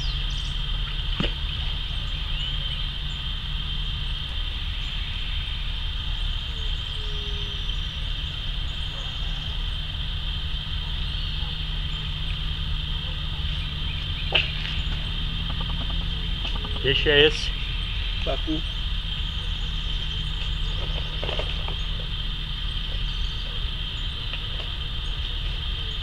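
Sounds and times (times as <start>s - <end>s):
high-pitched whine: 0.0s - 26.0s
low mechanical drone: 0.0s - 26.0s.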